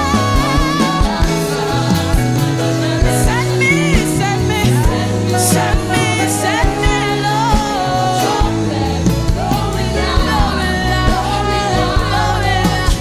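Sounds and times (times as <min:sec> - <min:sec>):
gospel band playing: 0:00.0 - 0:13.0
person singing: 0:00.0 - 0:13.0.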